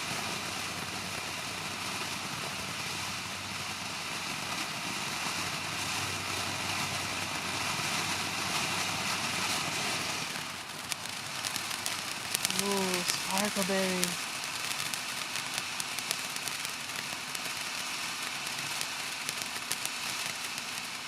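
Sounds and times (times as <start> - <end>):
firework fountain hissing: 0.0 - 21.0.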